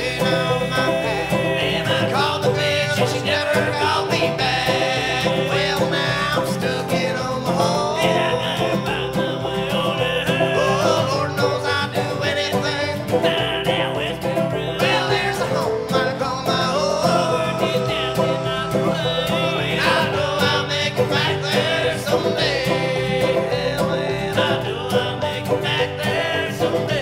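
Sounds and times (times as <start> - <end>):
bluegrass string band music: 0.0 - 27.0.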